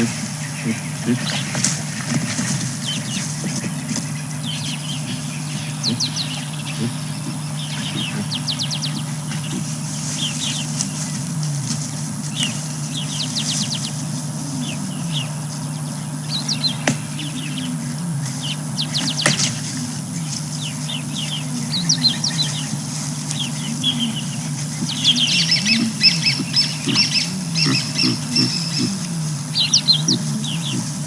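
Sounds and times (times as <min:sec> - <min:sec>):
birds chirping: 0:00.0 - 0:31.0
steady low hum: 0:00.0 - 0:31.0.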